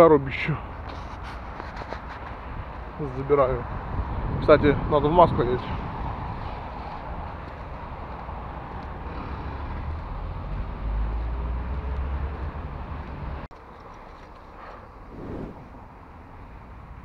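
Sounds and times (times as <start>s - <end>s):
outdoor background noise: 0.0s - 17.0s
passing vehicles rumbling: 2.3s - 13.5s, 14.5s - 17.0s.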